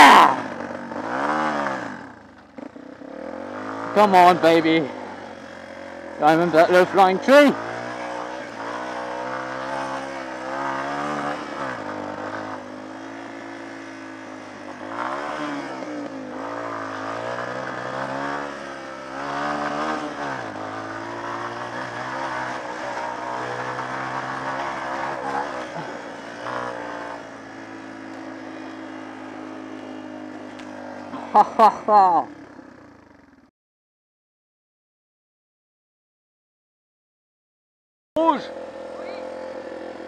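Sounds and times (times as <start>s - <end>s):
off-road motorcycle engine revving: 0.0s - 33.5s, 38.2s - 40.0s.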